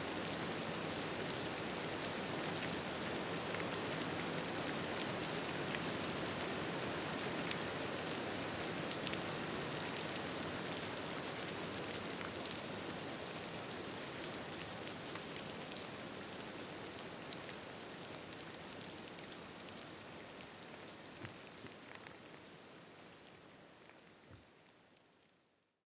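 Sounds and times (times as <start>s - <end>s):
rain pattering: 0.0s - 25.4s.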